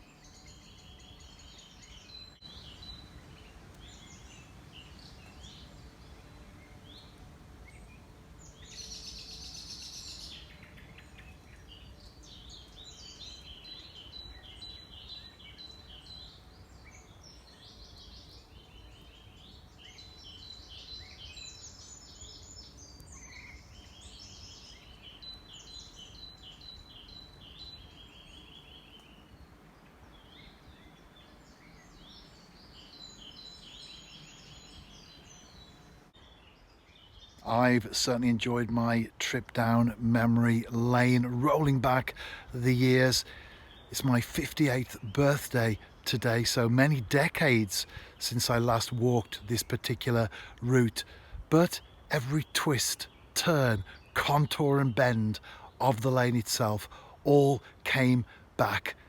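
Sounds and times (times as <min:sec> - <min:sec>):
small songbirds singing: 0:00.0 - 0:59.0.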